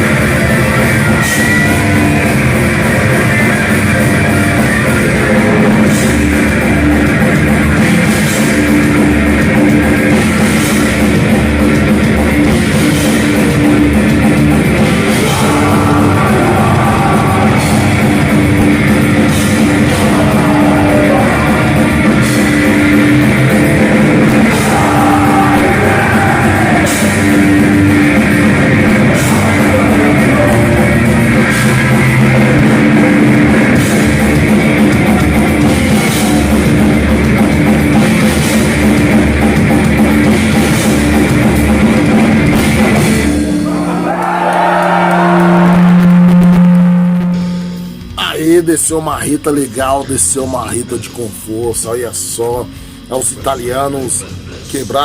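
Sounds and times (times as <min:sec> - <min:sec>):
heavy metal music: 0:00.0 - 0:55.0.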